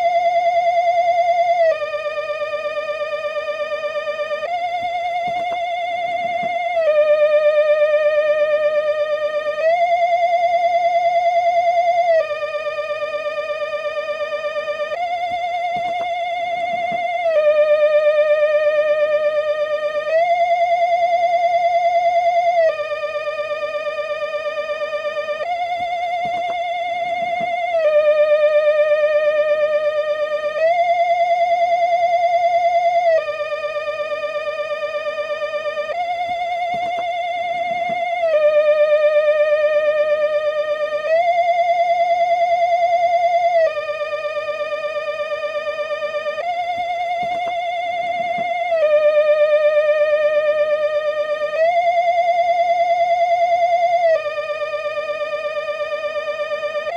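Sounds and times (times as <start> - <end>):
eerie wavering electronic tone: 0.0 - 56.9.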